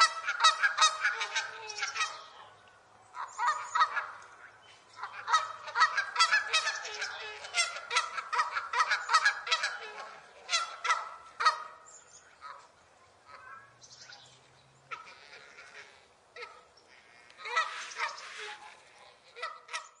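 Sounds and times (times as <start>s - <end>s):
geese honking: 0.0s - 2.5s, 3.2s - 13.7s, 14.9s - 20.0s.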